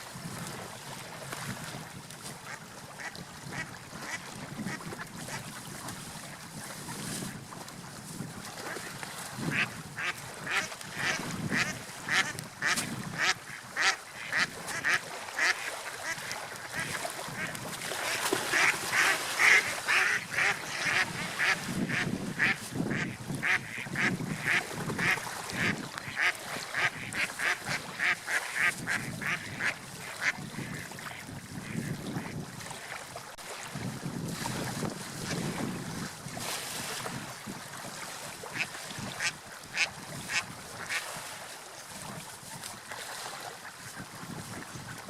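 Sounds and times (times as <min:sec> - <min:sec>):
waves rushing: 0:00.0 - 0:45.0.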